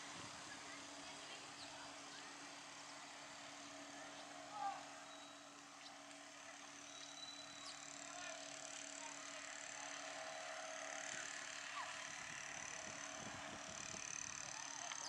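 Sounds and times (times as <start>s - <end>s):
distant outboard motor drone: 0.0s - 15.0s.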